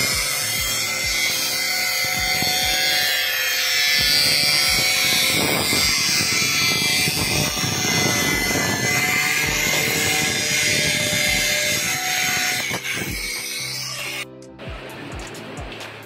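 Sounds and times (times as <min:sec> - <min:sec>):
angle grinder cutting plastic: 0:00.0 - 0:14.3.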